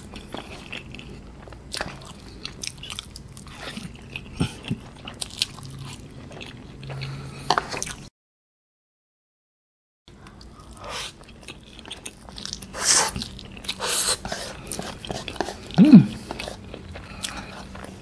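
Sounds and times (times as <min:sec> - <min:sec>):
wet chewing of noodles: 0:00.0 - 0:08.1, 0:10.1 - 0:18.0.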